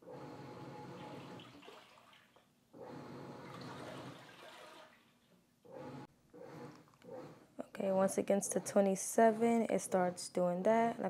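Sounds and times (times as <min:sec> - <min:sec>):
washing machine agitating: 0:00.0 - 0:10.1.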